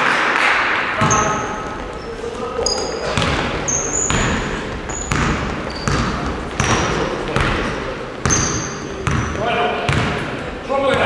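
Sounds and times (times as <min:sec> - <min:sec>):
basketball bouncing on gym floor: 0:00.7 - 0:11.0
sneakers squeaking on court: 0:00.7 - 0:11.0.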